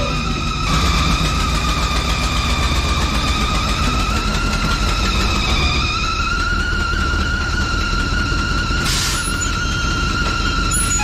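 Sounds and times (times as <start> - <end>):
high-pitched whine: 0.0 - 11.0
truck engine running: 0.0 - 11.0.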